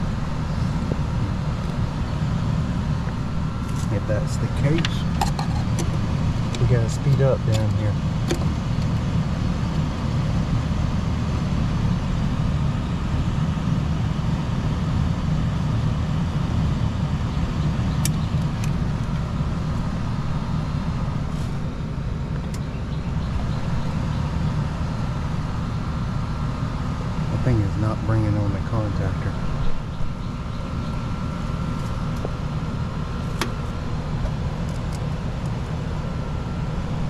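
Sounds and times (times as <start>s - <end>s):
air conditioning hum: 0.0s - 37.0s
faint steady whine: 0.0s - 37.0s.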